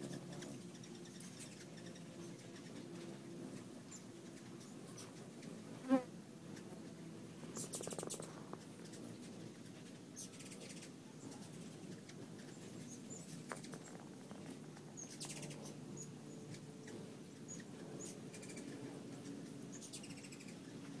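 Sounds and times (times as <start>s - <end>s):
hummingbirds chattering: 0.0s - 21.0s.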